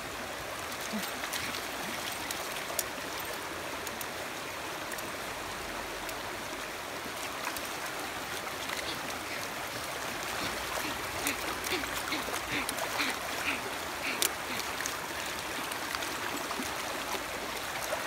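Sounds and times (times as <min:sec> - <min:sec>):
river water over stones: 0:00.0 - 0:18.0.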